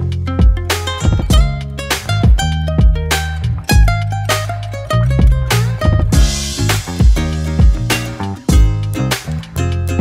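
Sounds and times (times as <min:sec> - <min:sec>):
bass line: 0:00.0 - 0:10.0
plucked guitar: 0:00.0 - 0:10.0
steady beat: 0:00.0 - 0:10.0.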